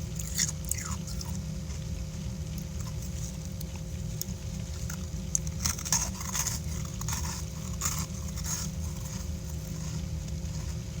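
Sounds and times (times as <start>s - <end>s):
person chewing frost crunches: 0.0s - 11.0s
steady low hum: 0.0s - 11.0s.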